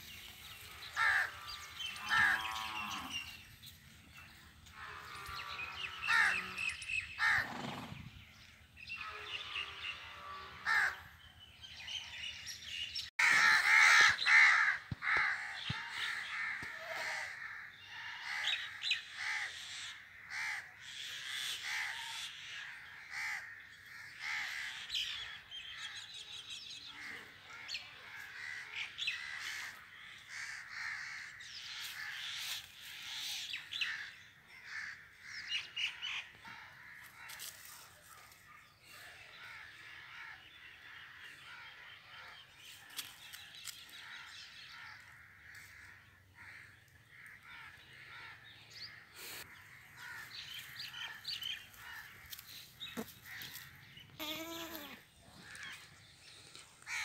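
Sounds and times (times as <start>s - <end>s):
birds calling: 0.0s - 37.9s, 38.5s - 57.0s.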